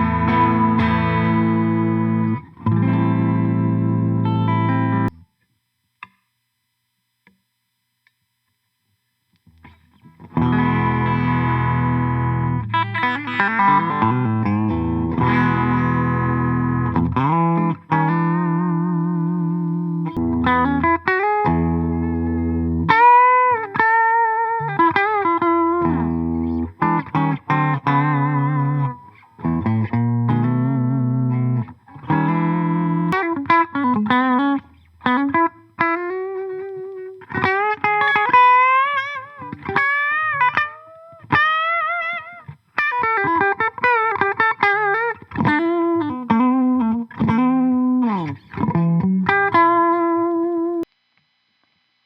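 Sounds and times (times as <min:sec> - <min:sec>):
electric guitar through an amp: 0:00.0 - 0:06.2, 0:07.2 - 0:50.9.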